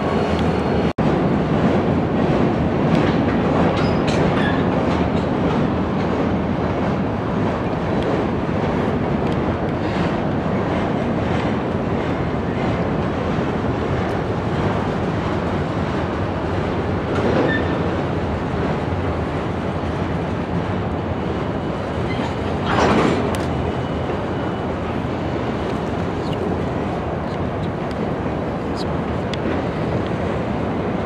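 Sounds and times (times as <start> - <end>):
freight train wheels rumbling on rail: 0.0 - 31.0.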